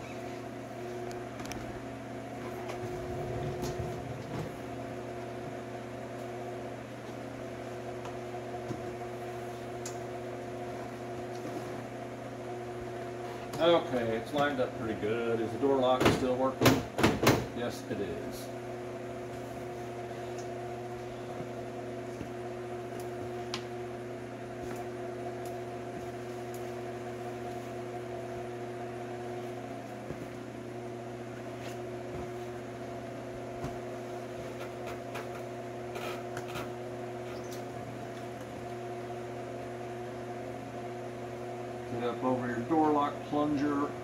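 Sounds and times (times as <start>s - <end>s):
electric fan humming: 0.0s - 44.0s.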